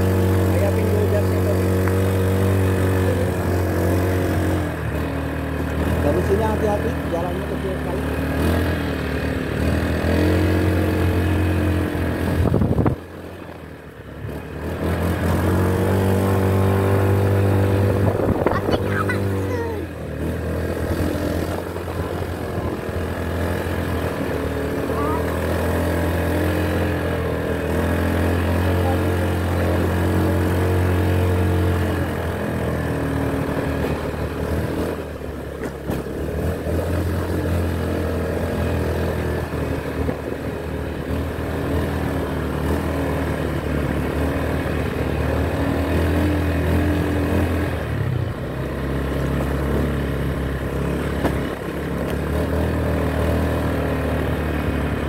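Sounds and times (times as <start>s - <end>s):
motor scooter engines running: 0.0s - 55.0s.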